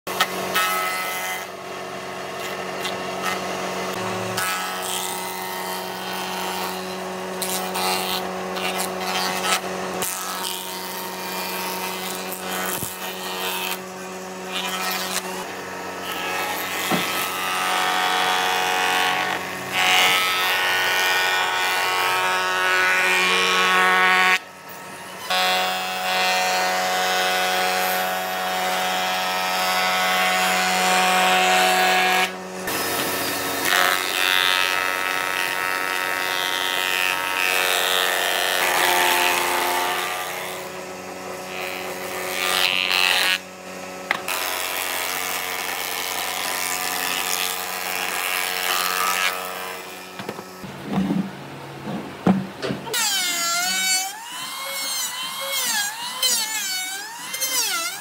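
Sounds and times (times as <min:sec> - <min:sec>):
jointer planing wood: 0:00.1 - 0:58.0.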